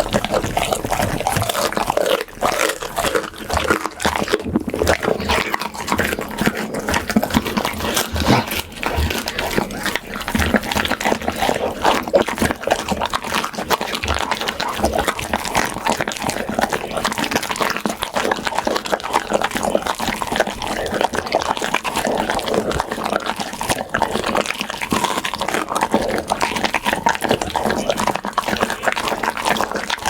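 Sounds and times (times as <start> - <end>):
dog chewing and smacking: 0.0 - 30.0.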